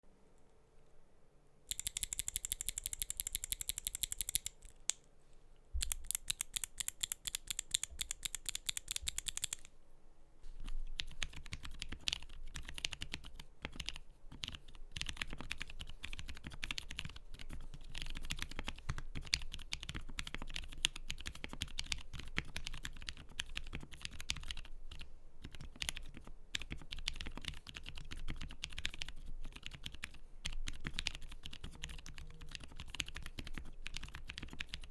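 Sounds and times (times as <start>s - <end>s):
mechanical keyboard typing: 1.7s - 5.0s, 5.8s - 9.7s, 11.0s - 34.9s.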